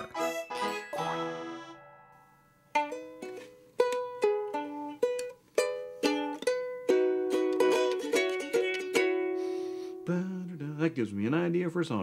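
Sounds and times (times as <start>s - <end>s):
ukulele strummed and picked: 0.0s - 11.8s.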